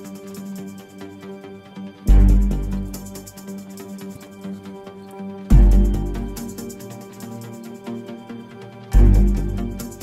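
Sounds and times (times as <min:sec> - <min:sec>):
electronic music with ticking beat: 0:00.0 - 0:10.0.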